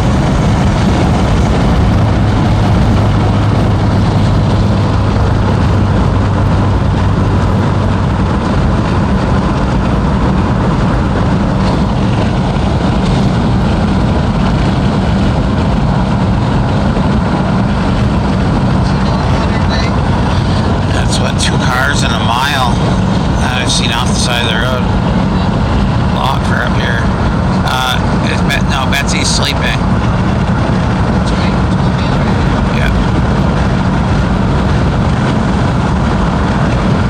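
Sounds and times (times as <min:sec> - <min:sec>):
car engine drone: 0:00.0 - 0:37.0
tyre road noise: 0:00.0 - 0:37.0.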